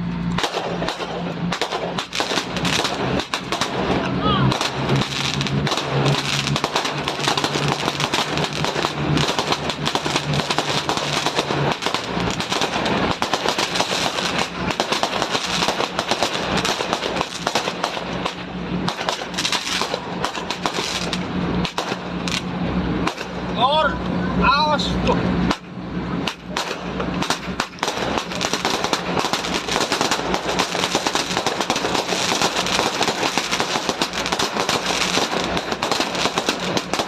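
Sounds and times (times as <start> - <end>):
firecrackers crackling: 0.0 - 37.0
steady low hum: 0.0 - 37.0.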